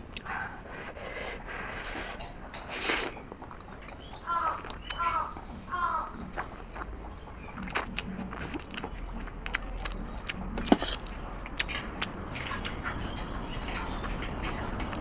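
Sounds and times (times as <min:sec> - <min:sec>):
slurping and chewing: 0:00.0 - 0:15.0
mouth clicks: 0:02.0 - 0:15.0.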